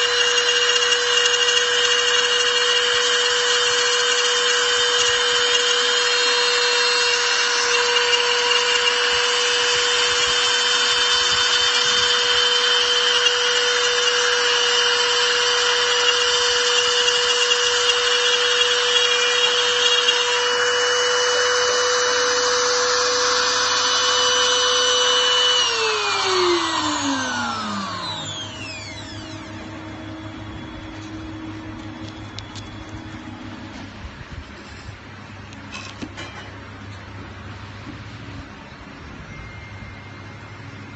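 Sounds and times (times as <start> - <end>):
cutter milling metal: 0.0 - 33.7
spindle whine: 0.0 - 35.9.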